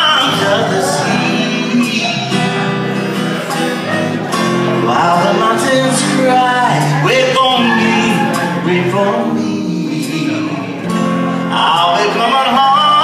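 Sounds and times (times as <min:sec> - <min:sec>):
guitar strummed slow ballad: 0:00.0 - 0:13.0
man singing: 0:00.0 - 0:13.0.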